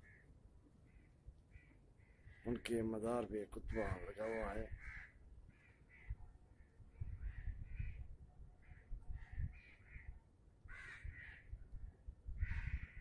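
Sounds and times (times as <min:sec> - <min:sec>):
crows cawing: 0:00.0 - 0:02.7, 0:03.7 - 0:08.0, 0:08.6 - 0:11.6, 0:12.4 - 0:13.0.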